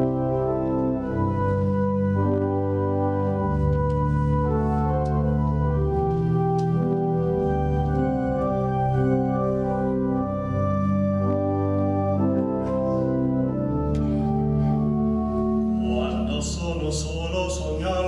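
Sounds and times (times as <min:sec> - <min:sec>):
organ playing sustained chords: 0:00.0 - 0:18.0.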